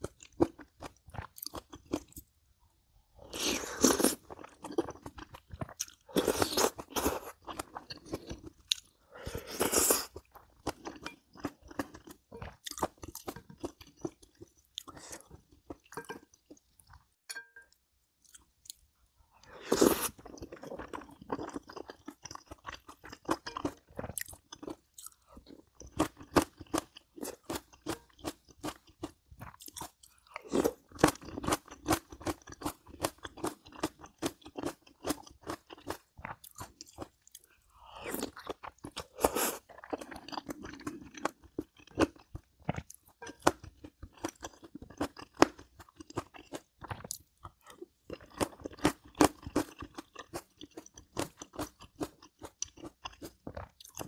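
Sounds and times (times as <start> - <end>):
person chewing crunchy food: 0.0 - 2.4, 3.2 - 17.2, 18.2 - 54.0.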